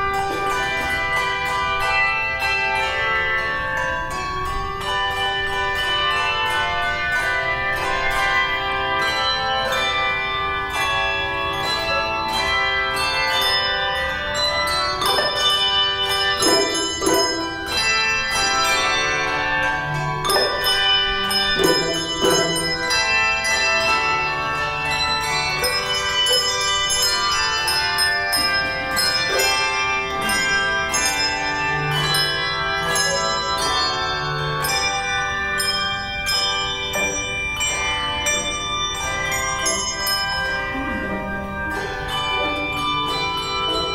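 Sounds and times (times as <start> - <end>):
handbell choir ringing: 0.0 - 43.9.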